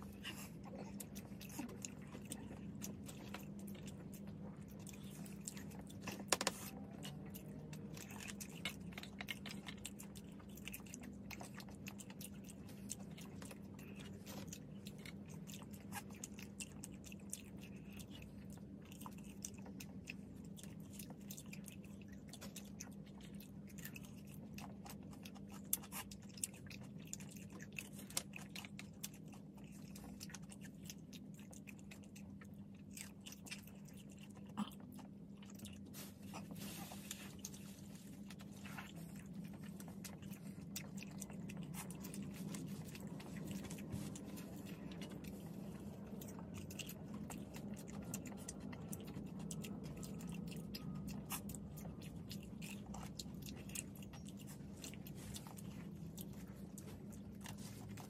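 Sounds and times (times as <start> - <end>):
crunchy chewing: 0.0 - 58.0
steady low hum: 0.0 - 58.0.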